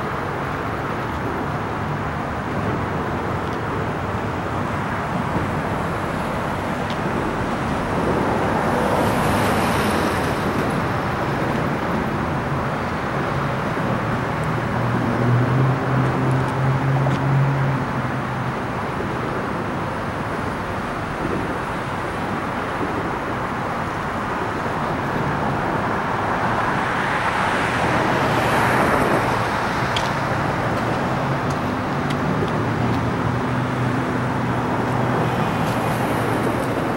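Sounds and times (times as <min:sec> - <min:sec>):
road traffic noise: 0:00.0 - 0:36.9.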